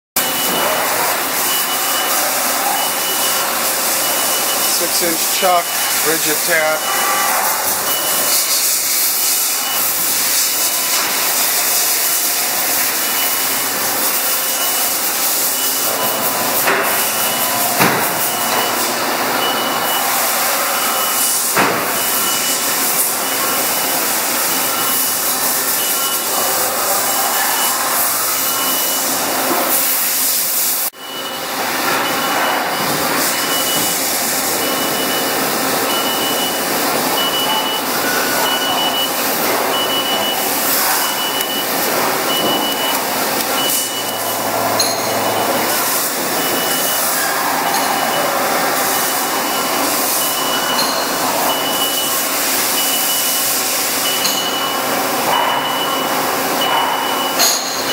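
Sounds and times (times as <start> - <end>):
lathe running with loud hiss: 0.2 - 55.3.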